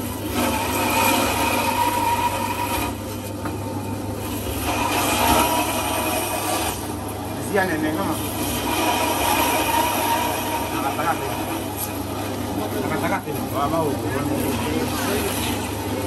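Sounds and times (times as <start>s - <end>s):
band saw cutting meat: 0.0s - 16.0s.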